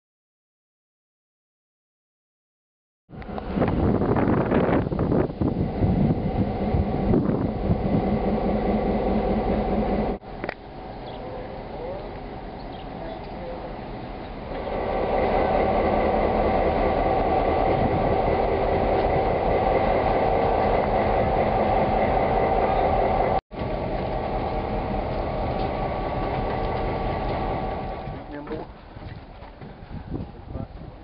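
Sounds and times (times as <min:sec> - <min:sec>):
train running on rails: 0:03.1 - 0:31.0.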